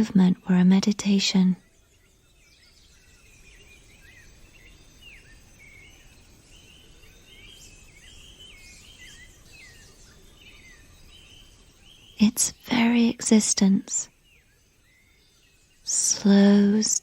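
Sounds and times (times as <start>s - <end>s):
birds chirping and whistling: 1.5s - 17.0s.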